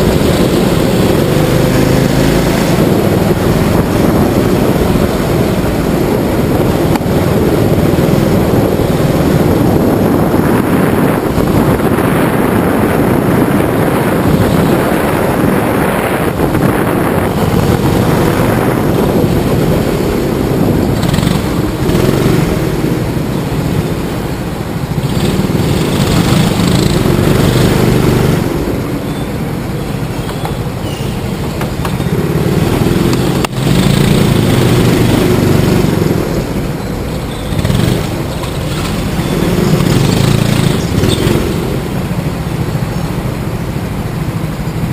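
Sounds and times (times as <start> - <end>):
go-kart engine running hard: 0.0 - 44.9.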